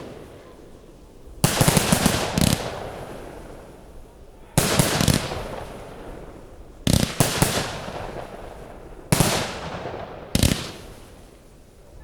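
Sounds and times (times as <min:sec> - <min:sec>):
fireworks bangs: 0:00.0 - 0:11.7.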